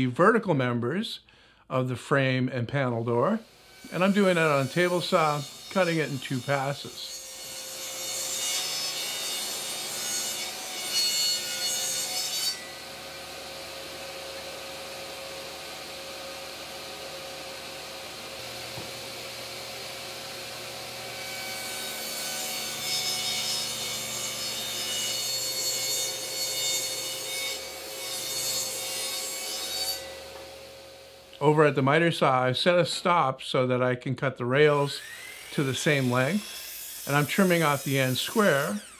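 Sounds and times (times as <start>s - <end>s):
saw blade whining: 3.2s - 31.9s, 34.7s - 38.9s
table saw ripping wood: 3.4s - 31.5s, 34.8s - 38.9s.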